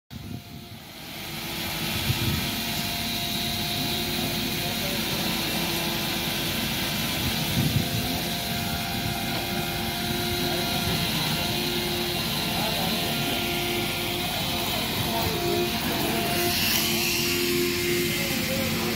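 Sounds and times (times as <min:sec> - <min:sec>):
electric chainsaw cutting log: 0:00.2 - 0:18.9.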